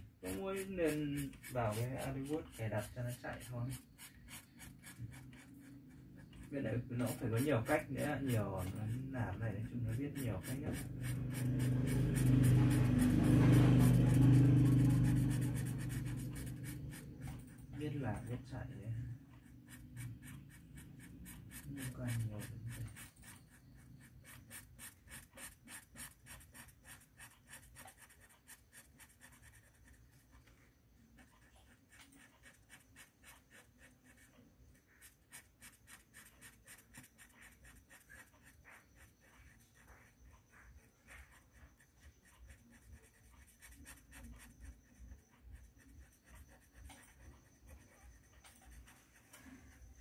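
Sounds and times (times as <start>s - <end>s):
crayon scratching on paper: 0.0s - 50.0s.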